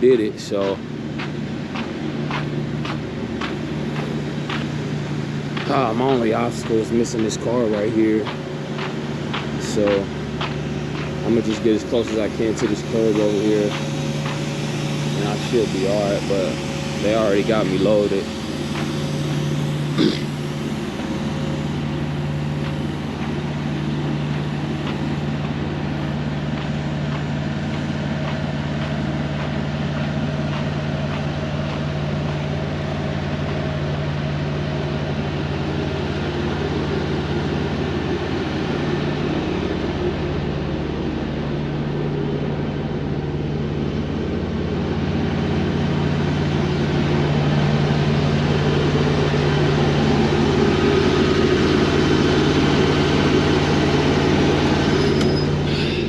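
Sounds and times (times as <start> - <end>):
diesel truck engine humming: 0.0 - 56.0.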